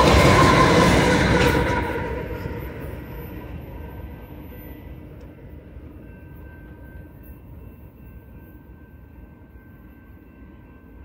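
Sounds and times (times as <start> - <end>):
freight train rumble: 0.0 - 11.0
faint high ringing tone: 1.8 - 11.0.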